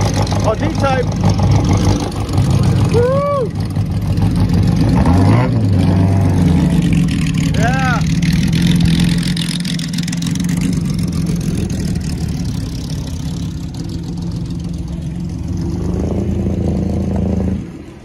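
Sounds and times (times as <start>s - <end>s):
racing engine idling: 0.0s - 18.0s
second car engine: 0.0s - 18.0s.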